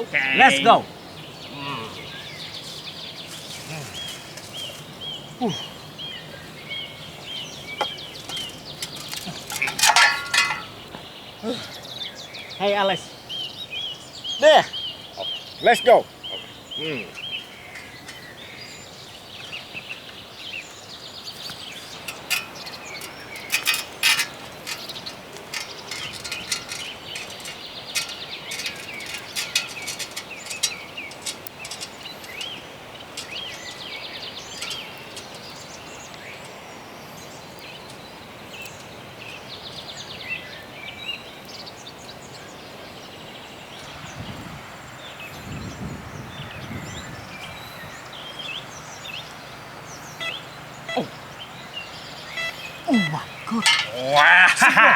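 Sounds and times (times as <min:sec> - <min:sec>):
birds chirping: 0:00.0 - 0:54.9
outdoor background noise: 0:00.0 - 0:54.9.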